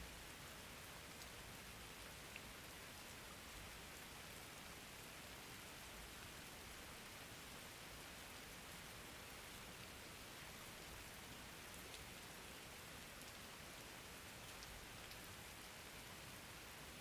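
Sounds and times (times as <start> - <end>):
rain drops ticking: 0.1 - 6.5, 8.1 - 17.0.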